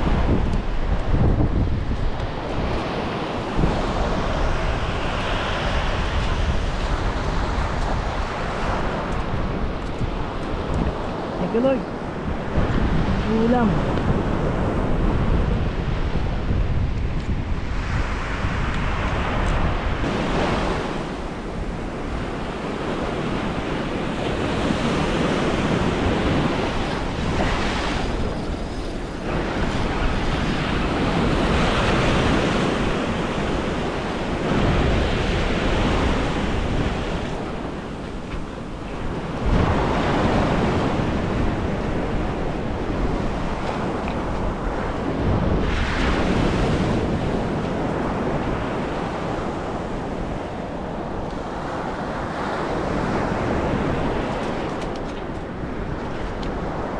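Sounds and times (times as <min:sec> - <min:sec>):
surf washing up beach: 0:00.0 - 0:56.9
wind buffeting microphone: 0:00.0 - 0:56.9.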